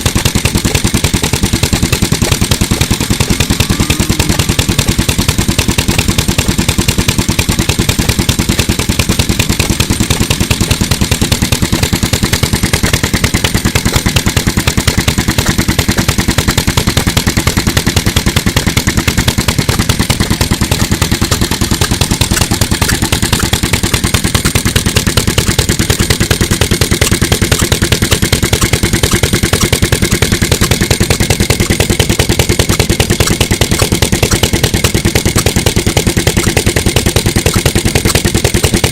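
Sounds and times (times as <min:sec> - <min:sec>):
stationary engine chugging: 0:00.0 - 0:38.9.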